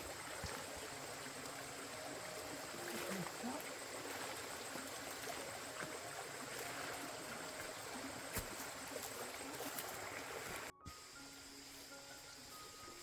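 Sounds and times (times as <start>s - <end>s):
outdoor ambience: 0.0s - 13.0s
rushing water noise: 0.0s - 13.0s.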